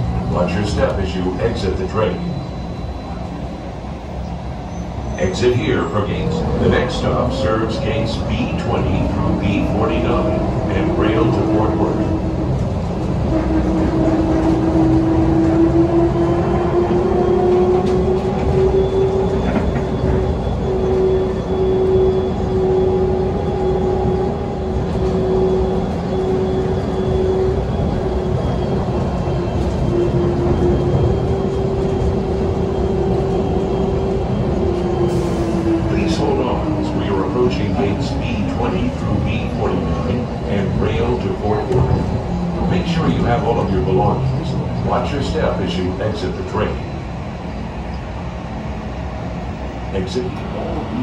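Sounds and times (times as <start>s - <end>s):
train rolling rumble: 0.0s - 51.0s.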